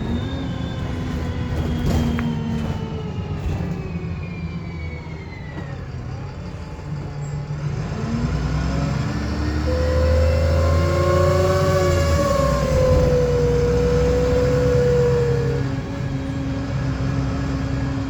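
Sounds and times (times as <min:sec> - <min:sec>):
bus engine pulling away: 0:00.0 - 0:18.0
bus whirring whine: 0:00.0 - 0:18.0.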